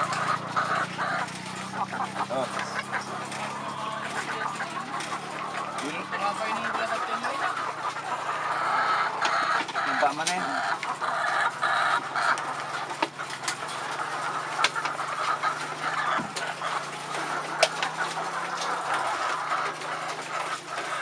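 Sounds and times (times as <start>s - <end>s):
hens clucking and squawking: 0.0s - 21.0s.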